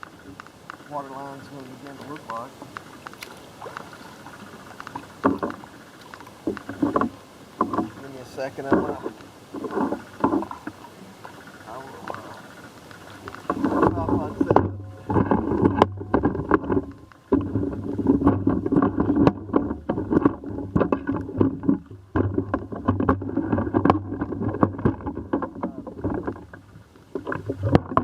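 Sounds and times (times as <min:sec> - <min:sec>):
water sloshing against microphone: 0:00.0 - 0:28.0.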